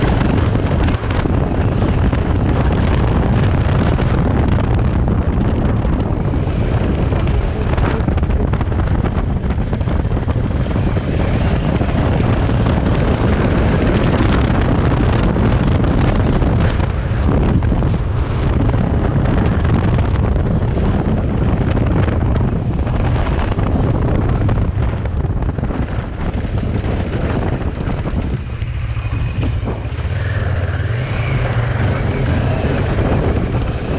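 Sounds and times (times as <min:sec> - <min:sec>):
motorcycle engine running: 0:00.0 - 0:33.9
wind buffeting microphone: 0:00.0 - 0:33.9.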